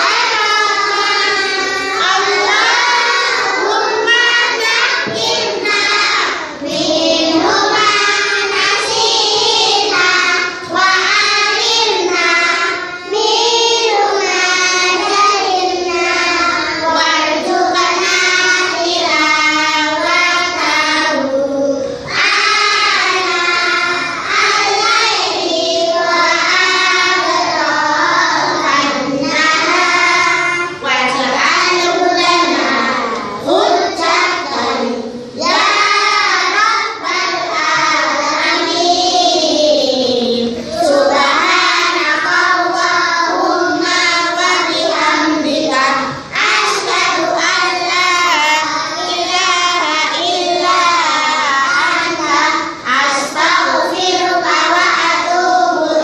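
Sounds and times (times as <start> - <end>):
children chanting a prayer: 0.0 - 56.0.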